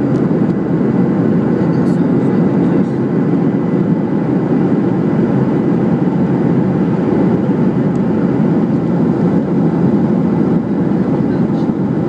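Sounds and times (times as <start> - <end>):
airplane cabin engine drone: 0.0 - 12.0.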